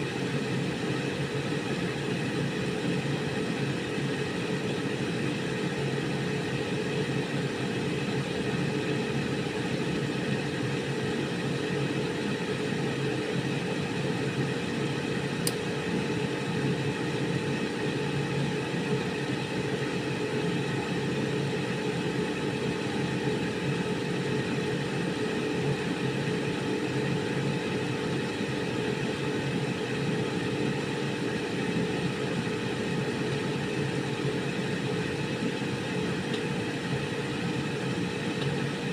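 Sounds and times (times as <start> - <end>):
air fryer fan whirring: 0.0 - 38.9.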